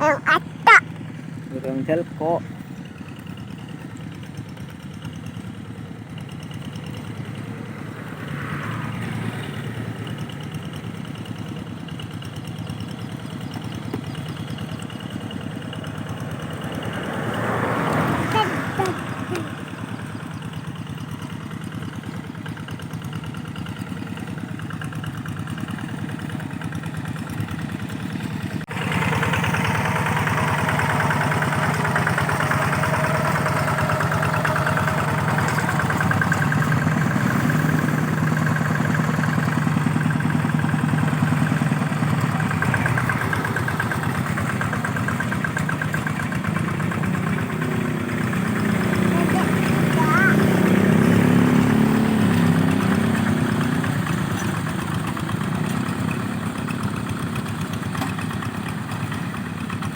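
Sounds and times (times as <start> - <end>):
tractor engine running: 0.0 - 8.3, 9.1 - 59.9.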